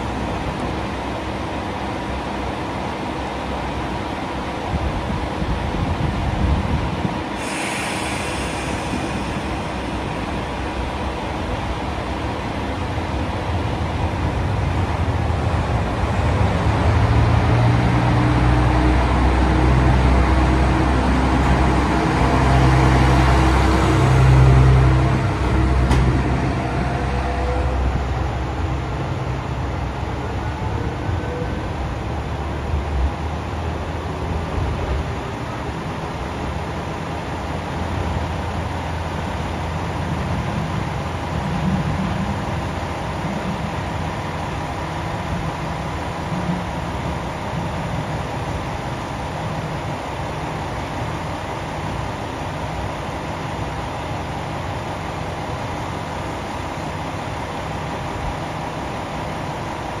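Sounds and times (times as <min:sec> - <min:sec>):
diesel railcar engine rumble: 0:00.0 - 1:00.0.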